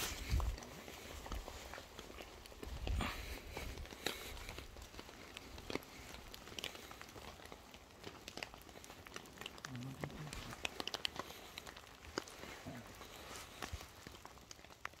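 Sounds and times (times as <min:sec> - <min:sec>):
faint crinkling and rustling: 0:00.0 - 0:15.0.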